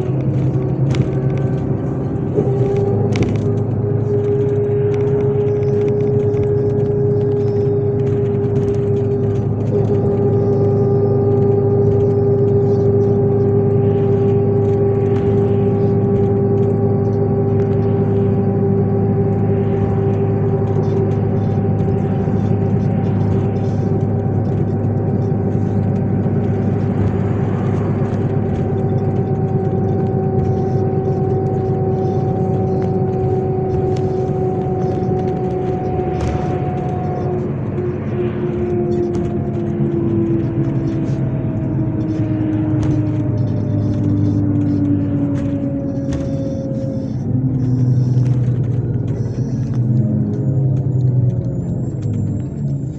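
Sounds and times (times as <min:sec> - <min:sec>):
bus engine and drivetrain hum: 0:00.0 - 0:52.9
falling whine: 0:00.0 - 0:52.9.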